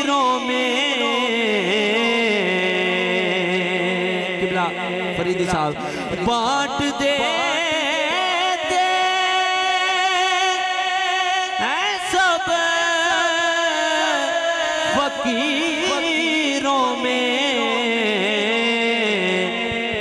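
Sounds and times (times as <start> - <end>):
man singing into microphone: 0.0 - 20.0.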